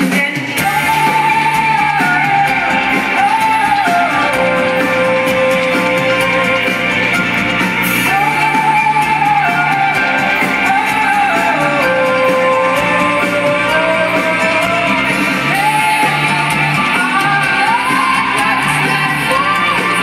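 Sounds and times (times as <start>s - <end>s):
live rock band: 0.0s - 20.0s
woman singing: 0.0s - 20.0s.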